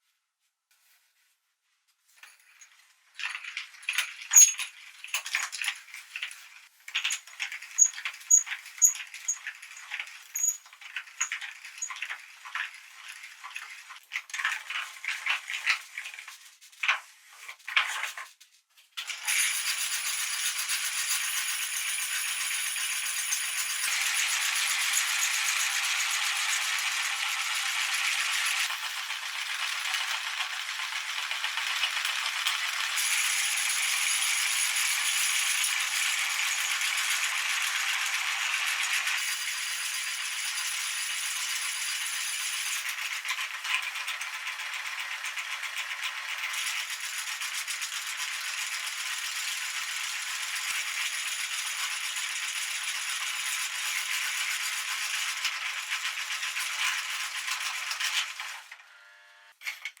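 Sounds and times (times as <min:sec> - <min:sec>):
meat grinder rattling: 0:03.2 - 0:16.3, 0:19.0 - 0:58.8.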